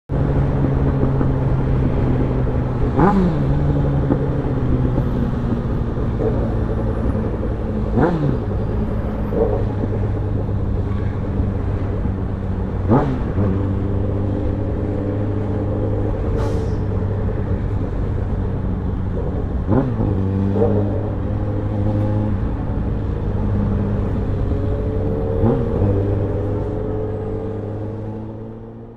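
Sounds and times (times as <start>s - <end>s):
motorcycle engine running: 0.2s - 28.9s.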